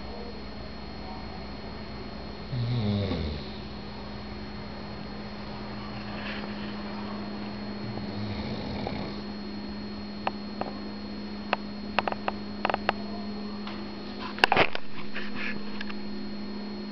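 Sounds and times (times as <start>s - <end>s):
steady electrical hum: 0.0s - 16.9s.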